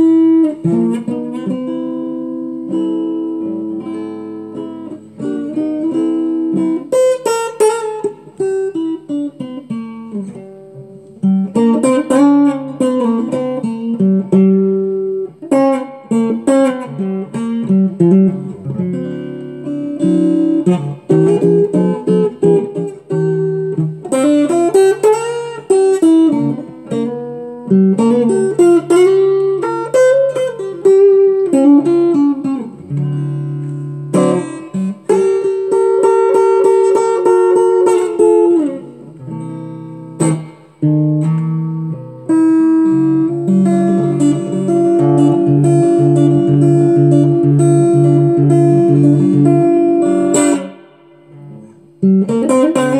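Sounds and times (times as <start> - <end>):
blues guitar plucked phrases: 0.0 - 52.9.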